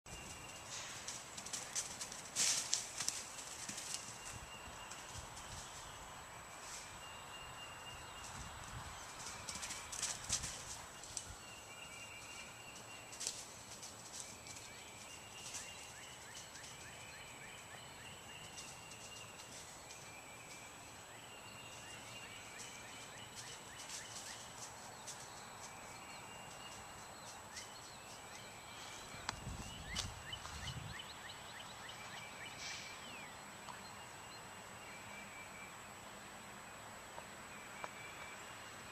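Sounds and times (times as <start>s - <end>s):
faint birdsong chirping: 0.1s - 38.9s.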